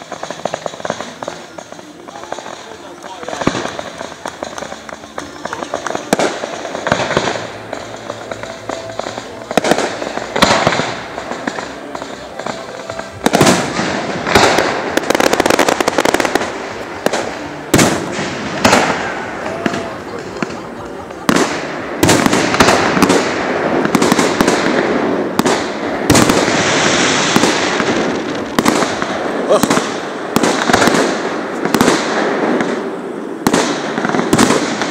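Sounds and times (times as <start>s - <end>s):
fireworks bangs: 0.0s - 34.9s
fireworks crackling: 0.0s - 34.9s.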